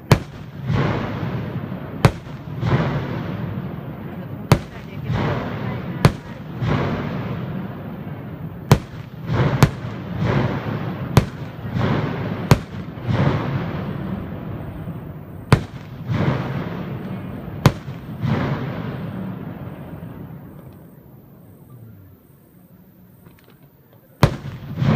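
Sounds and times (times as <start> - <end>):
firework bangs: 0.0 - 21.6, 23.2 - 24.9
rushes of firework noise: 0.0 - 24.9.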